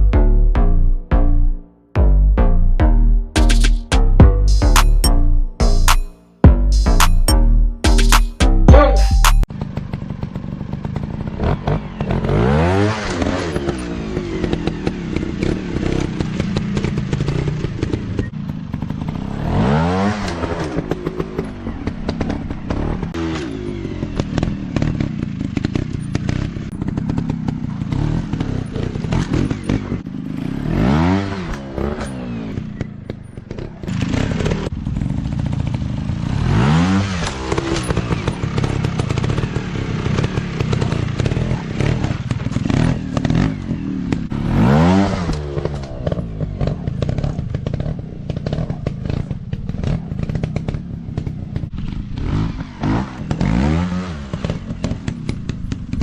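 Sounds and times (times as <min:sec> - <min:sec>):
dirt bike engine revving: 0:03.3 - 0:56.0.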